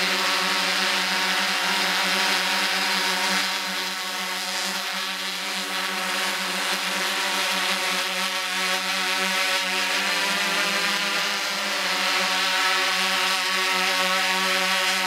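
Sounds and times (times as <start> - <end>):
drone propellers whirring: 0.0 - 15.0.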